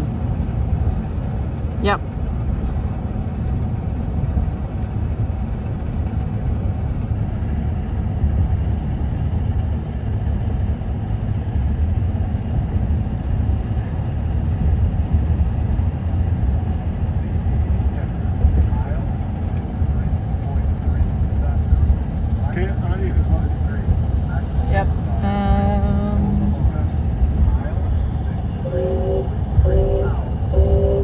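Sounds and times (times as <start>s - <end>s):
road and wind noise: 0.0s - 31.0s
steam train running: 0.0s - 31.0s.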